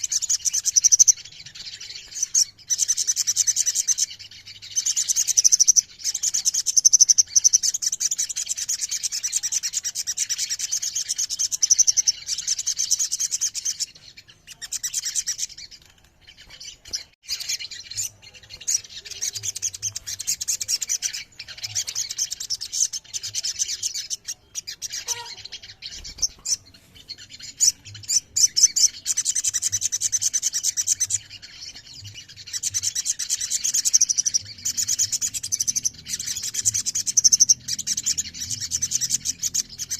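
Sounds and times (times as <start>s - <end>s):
birds trilling and chirping: 0.0s - 39.9s.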